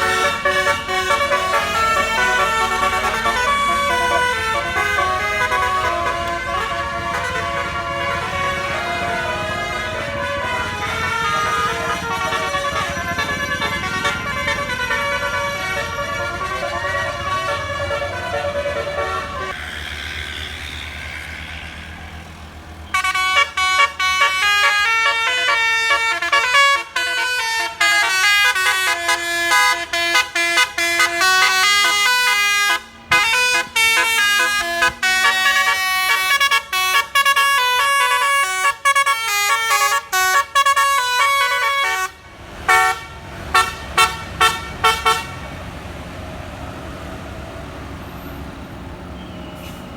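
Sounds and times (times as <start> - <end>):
multi-trumpet air horn tune: 0.0 - 19.6, 22.9 - 45.4.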